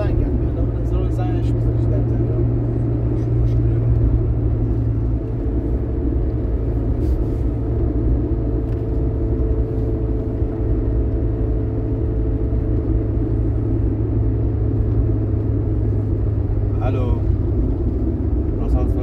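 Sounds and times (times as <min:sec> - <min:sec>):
car cabin engine drone: 0:00.0 - 0:19.0.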